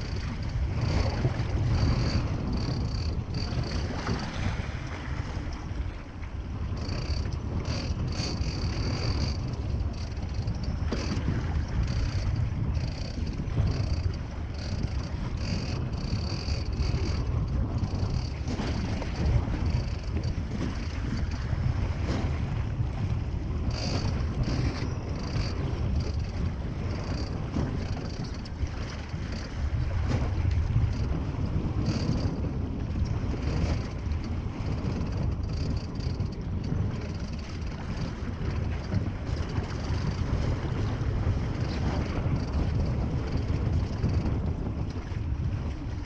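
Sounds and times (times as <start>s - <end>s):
boat engine running: 0.0s - 46.0s
wind buffeting microphone: 0.0s - 46.0s.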